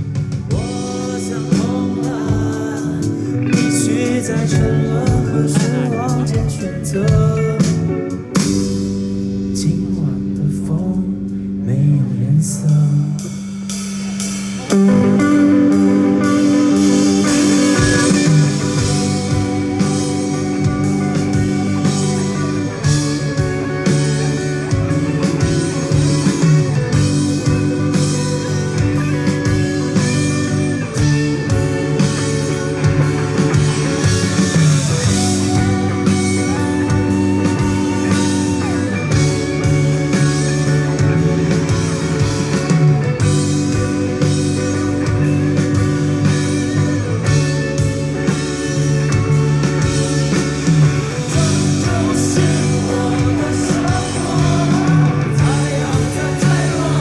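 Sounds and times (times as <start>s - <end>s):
bass and drums: 0.0s - 57.0s
instrumental rock guitar: 0.0s - 57.0s.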